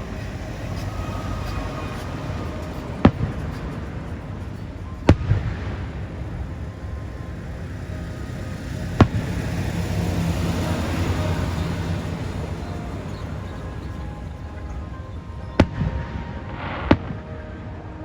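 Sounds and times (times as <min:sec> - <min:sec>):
fireworks bangs: 0:00.0 - 0:16.2
low background rumble: 0:00.0 - 0:16.6.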